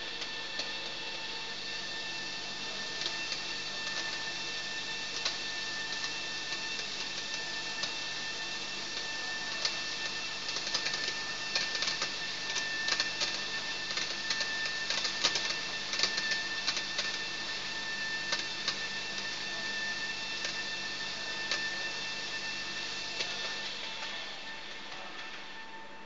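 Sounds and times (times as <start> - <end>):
machine hum with whistling tones: 0.0 - 26.0.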